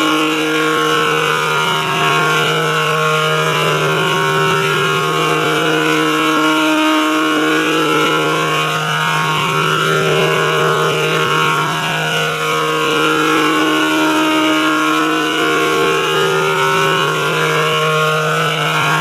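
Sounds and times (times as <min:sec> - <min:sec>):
electronic drone: 0:00.0 - 0:19.0
faint wavering tones: 0:00.0 - 0:19.0.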